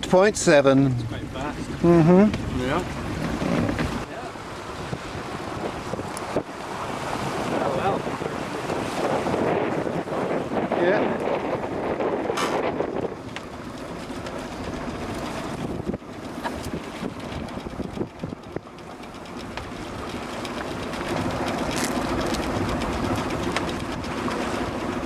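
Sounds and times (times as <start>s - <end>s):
water rushing past hull: 0.0s - 25.0s
wind buffeting microphone: 0.0s - 25.0s.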